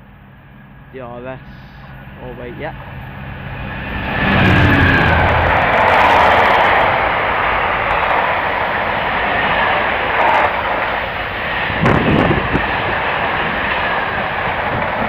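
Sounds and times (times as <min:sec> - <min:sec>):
train wheels on rail: 0:01.4 - 0:15.0
wind buffeting microphone: 0:01.4 - 0:15.0.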